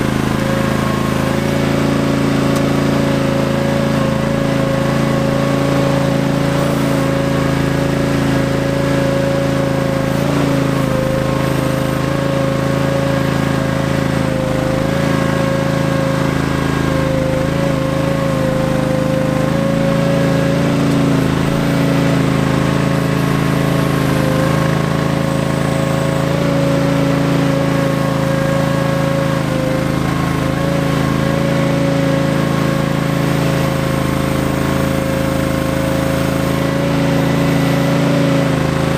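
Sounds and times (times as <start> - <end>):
garden tractor engine running: 0.0 - 38.9
strong steady whine: 0.0 - 38.9.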